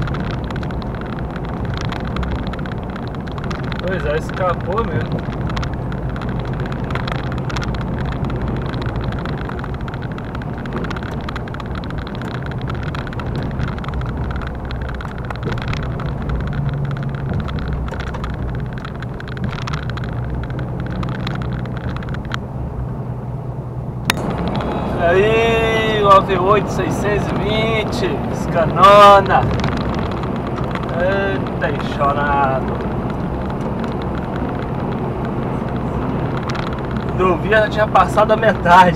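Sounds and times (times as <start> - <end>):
lorry diesel engine running: 0.0 - 38.9
tyre and road noise: 0.0 - 38.9.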